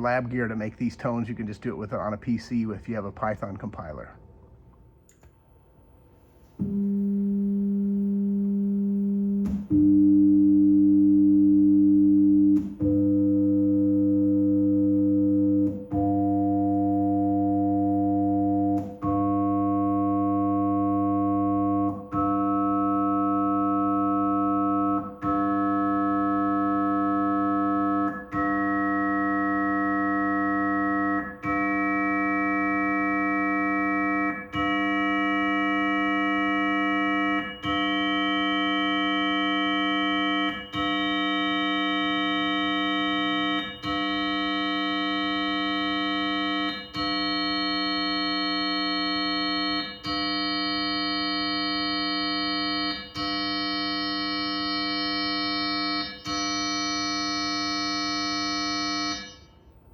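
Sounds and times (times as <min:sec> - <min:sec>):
dissonant synthesized sine tone chord: 0:06.6 - 0:59.5.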